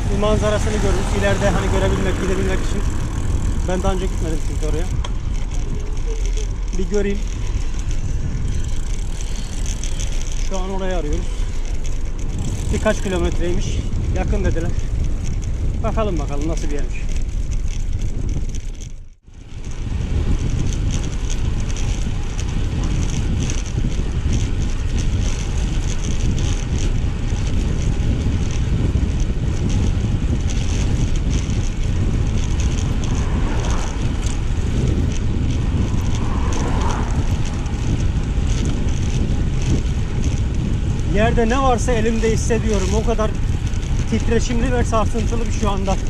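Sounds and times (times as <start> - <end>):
bike tyres on paving stones: 0.0 - 46.0
wind rumble on microphone: 0.0 - 46.0.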